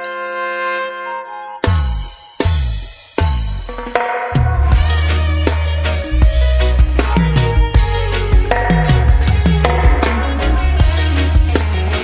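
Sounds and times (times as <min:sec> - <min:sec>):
reggae music with heavy bass: 0:00.0 - 0:12.0.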